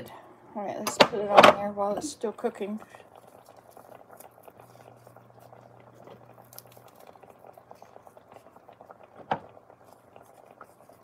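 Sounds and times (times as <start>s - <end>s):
fish simmering in butter: 0.0s - 11.0s.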